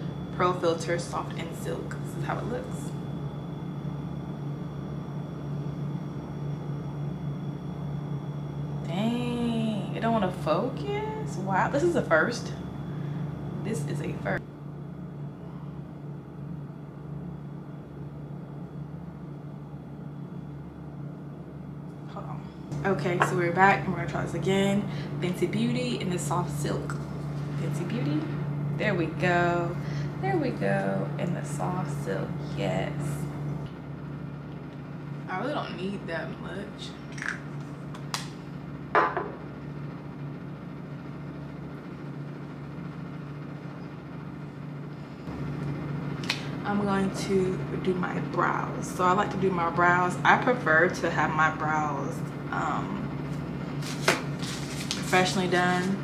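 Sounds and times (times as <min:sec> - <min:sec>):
fan blowing air: 0:00.0 - 0:56.0.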